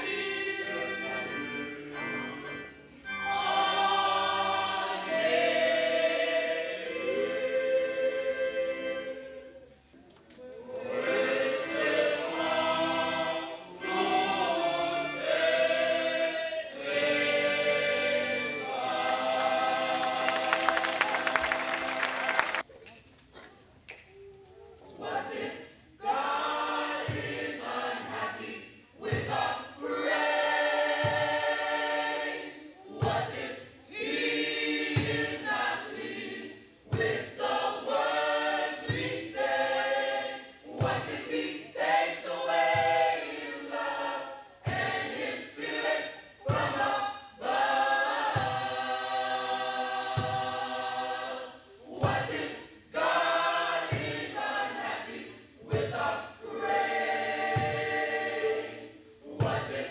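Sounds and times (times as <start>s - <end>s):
choir singing a hymn: 0.0s - 22.7s, 24.8s - 59.9s.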